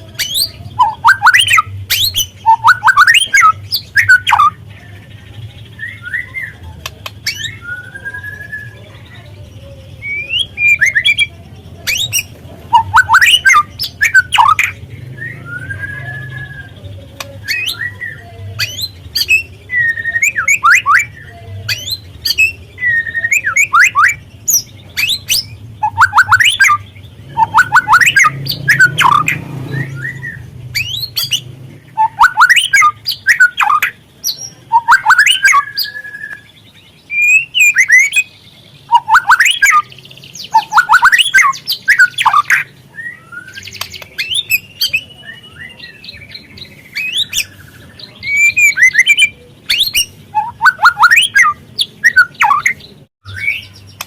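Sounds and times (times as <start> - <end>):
bird chirping and twittering: 0.0 - 54.0.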